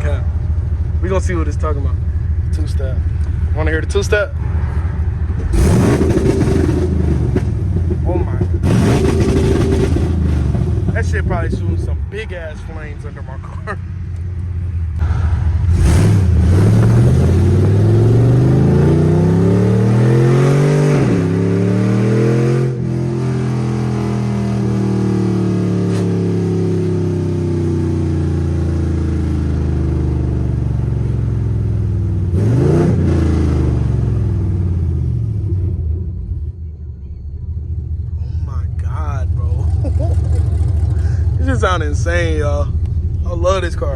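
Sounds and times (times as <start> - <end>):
loud car engine revving: 0.0 - 13.8, 15.0 - 36.4, 38.2 - 43.9.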